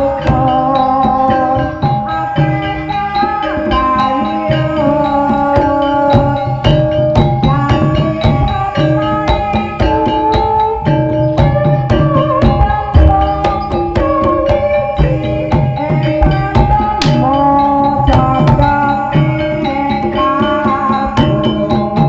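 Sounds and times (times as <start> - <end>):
hand drumming: 0.0 - 22.0
struck keyed instruments melody: 0.0 - 22.0.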